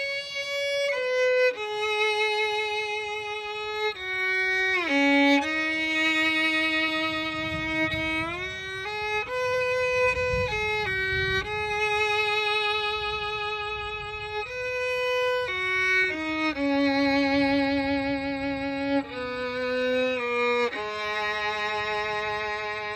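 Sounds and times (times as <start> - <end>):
solo fiddle melody: 0.0 - 22.9.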